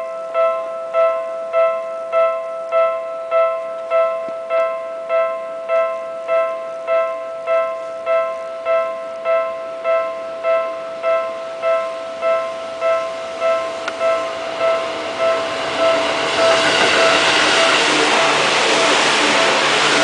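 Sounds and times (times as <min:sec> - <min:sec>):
two-tone crossing warning bell: 0:00.0 - 0:20.0.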